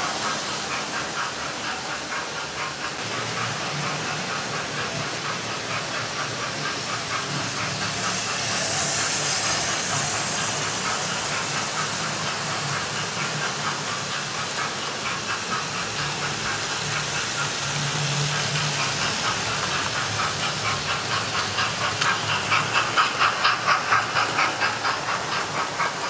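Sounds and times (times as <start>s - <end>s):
model train motors humming: 0.0s - 26.0s
steam effect hiss: 0.0s - 26.0s
wheels clicking on track: 0.0s - 26.0s.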